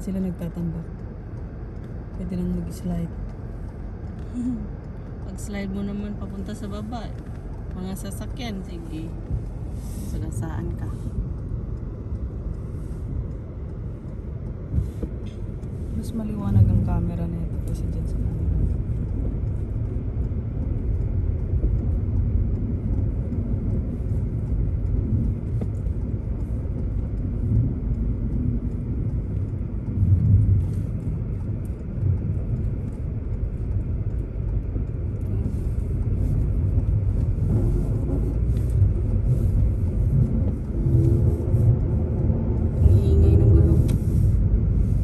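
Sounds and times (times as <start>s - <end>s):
car tyre and road noise: 0.0s - 45.0s.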